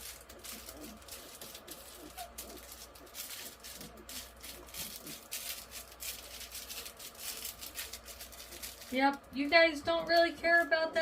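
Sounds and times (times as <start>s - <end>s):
toy crinkling: 0.0s - 11.0s.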